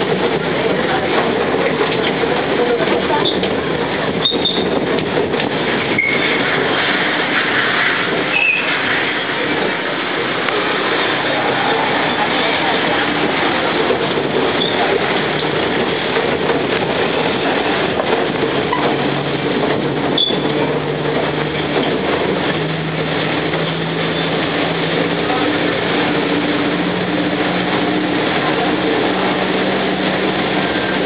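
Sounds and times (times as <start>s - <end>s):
ride noise: 0.0s - 31.0s
vehicle engine drone: 0.0s - 31.0s.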